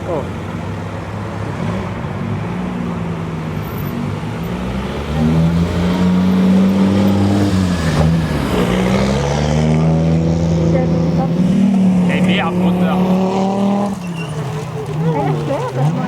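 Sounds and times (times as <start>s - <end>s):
car engine accelerating hard: 1.2s - 16.0s.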